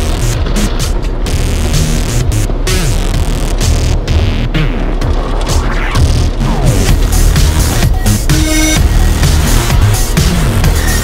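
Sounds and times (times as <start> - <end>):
loud electronic music: 0.0 - 11.0.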